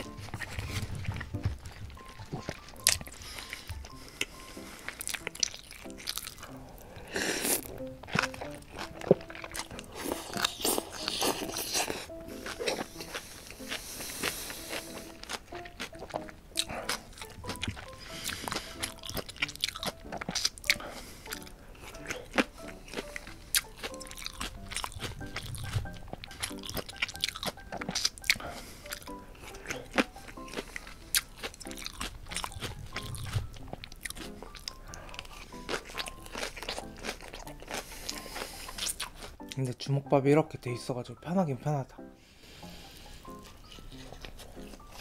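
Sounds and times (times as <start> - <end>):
chewing and crunching food: 0.0 - 39.9, 42.5 - 45.0
soft background music: 0.0 - 45.0.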